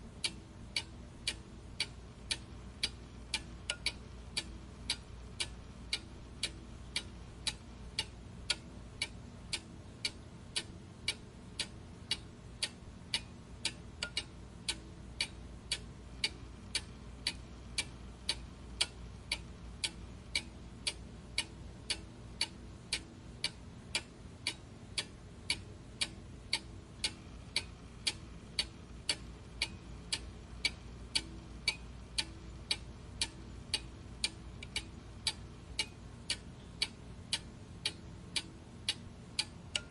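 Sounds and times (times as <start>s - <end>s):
clock ticking: 0.2s - 39.9s.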